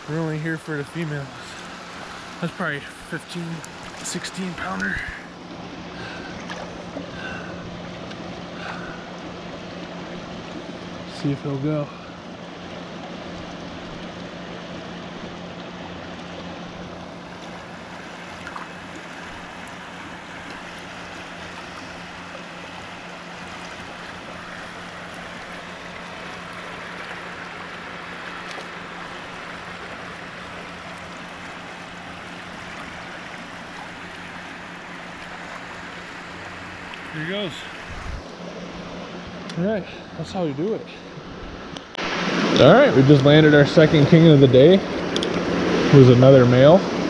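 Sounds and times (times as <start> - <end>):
creek water flowing: 0.0 - 47.0.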